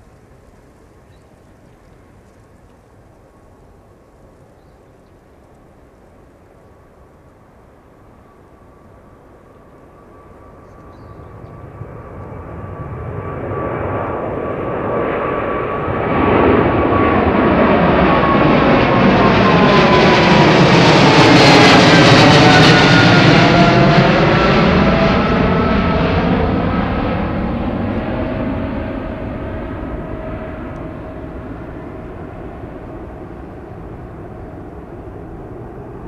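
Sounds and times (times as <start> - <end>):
jet engines at takeoff: 0.0 - 36.0.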